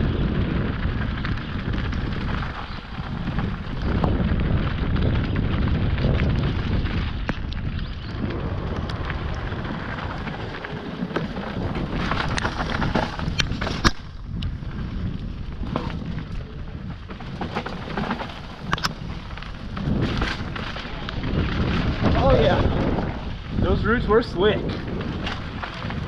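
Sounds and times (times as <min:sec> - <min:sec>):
bike rattling over bumps: 0:00.0 - 0:26.0
bike tyre noise: 0:00.0 - 0:26.0
wind buffeting microphone: 0:00.0 - 0:26.0.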